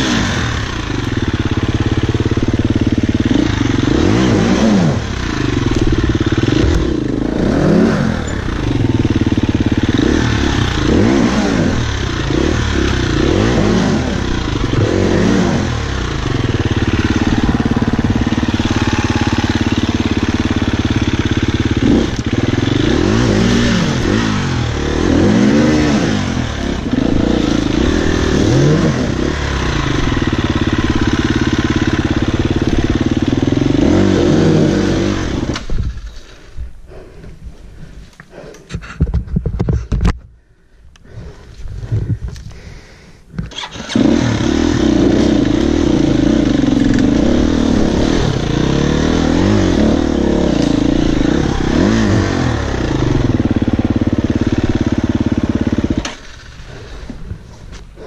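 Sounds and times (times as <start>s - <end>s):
motorcycle engine idling: 0.0s - 34.1s, 40.4s - 58.0s.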